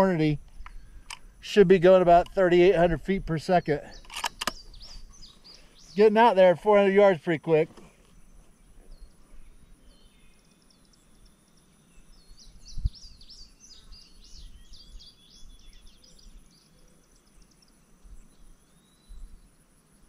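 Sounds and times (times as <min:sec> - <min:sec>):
birds chirping and trilling: 0:00.0 - 0:19.6
faint outdoor background noise: 0:00.0 - 0:20.0.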